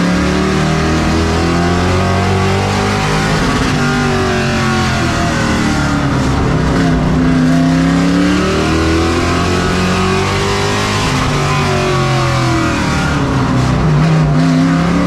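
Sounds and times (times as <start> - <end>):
race truck engines running hard: 0.0 - 15.0.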